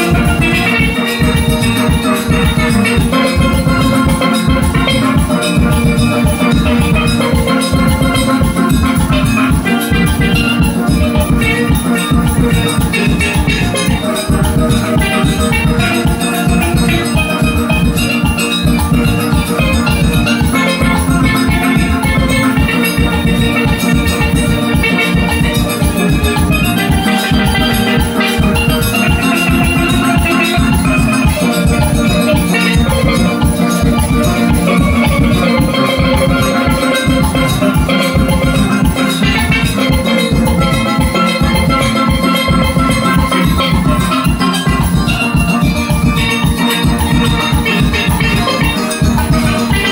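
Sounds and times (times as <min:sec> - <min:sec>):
drums keeping a steady beat: 0:00.0 - 0:49.9
steelpans playing melody: 0:00.0 - 0:49.9.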